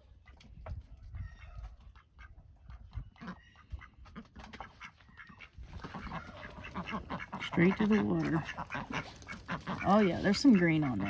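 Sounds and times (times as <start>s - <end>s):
ducks quacking quietly: 0.0s - 11.0s.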